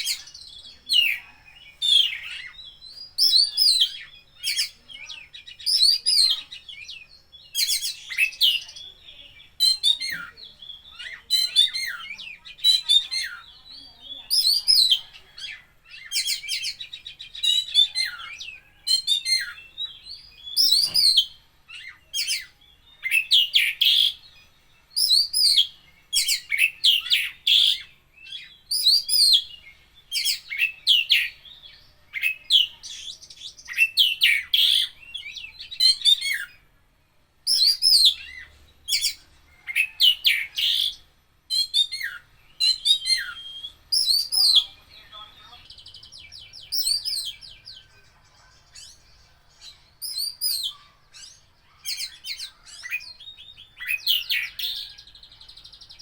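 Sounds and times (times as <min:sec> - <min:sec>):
songbird singing whistled phrases: 0:00.0 - 0:36.7, 0:37.4 - 0:48.0, 0:48.6 - 0:56.0.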